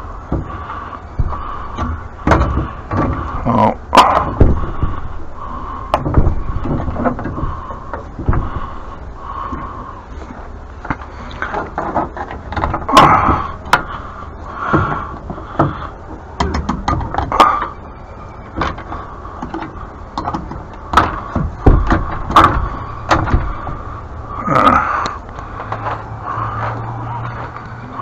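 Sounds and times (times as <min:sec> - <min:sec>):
knocks clicks and scrapes of parts: 0:00.0 - 0:28.0.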